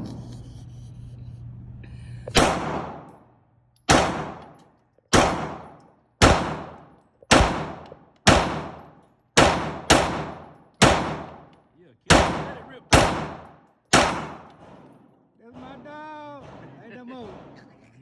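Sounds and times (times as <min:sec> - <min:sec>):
gunshots with echoing tail: 0:02.3 - 0:03.3, 0:03.9 - 0:18.0.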